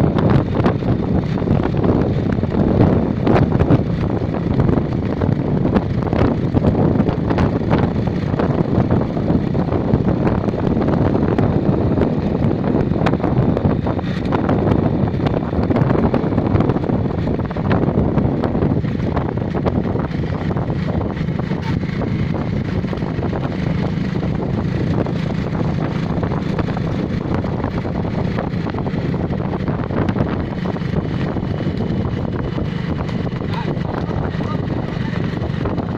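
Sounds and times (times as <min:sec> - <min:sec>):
vehicle running hum: 0:00.0 - 0:35.9
wind buffeting microphone: 0:00.0 - 0:35.9.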